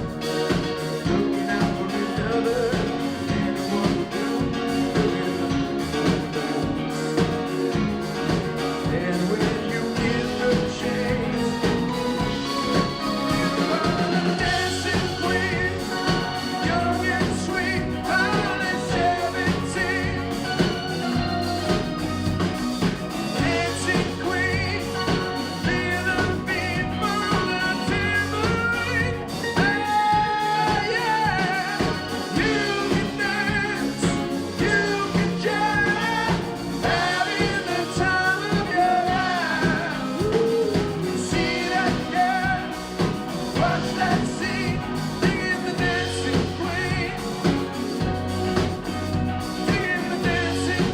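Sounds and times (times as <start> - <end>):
person singing lead vocal: 0.0 - 50.9
rock band playing: 0.0 - 50.9.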